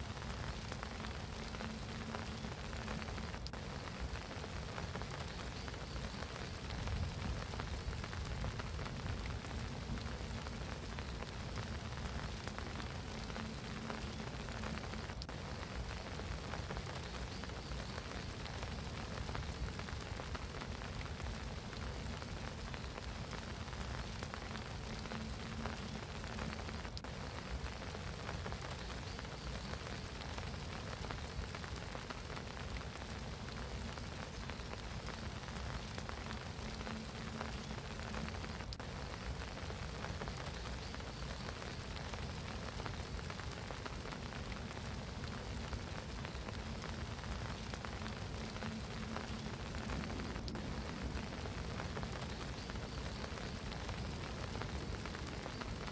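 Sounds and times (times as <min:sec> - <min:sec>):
rain falling on a pond: 0:00.0 - 0:55.9.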